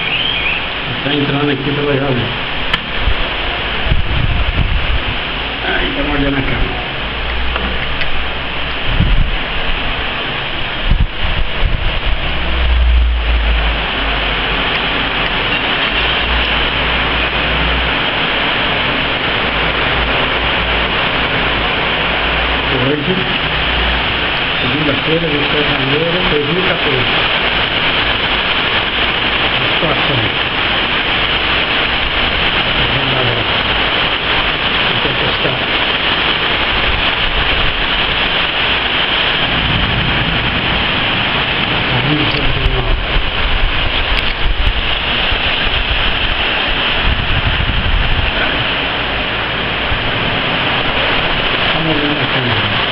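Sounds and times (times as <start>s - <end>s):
heavy rain downpour: 0.0s - 52.9s
wind buffeting microphone: 0.0s - 52.9s.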